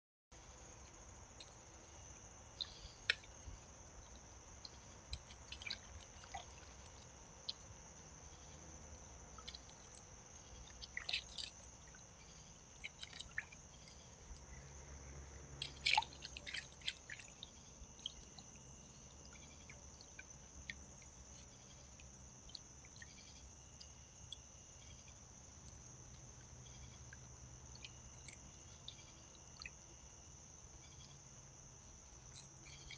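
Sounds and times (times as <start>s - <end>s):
water splashes and drips: 0.6s - 31.5s.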